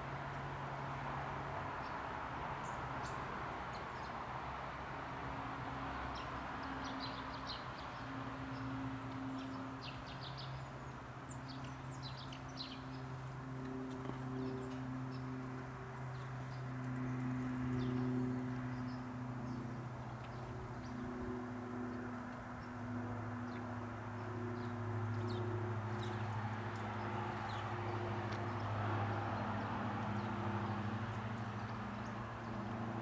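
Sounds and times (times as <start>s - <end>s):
birds chirping: 6.2s - 33.0s
low mechanical hum: 6.5s - 33.0s.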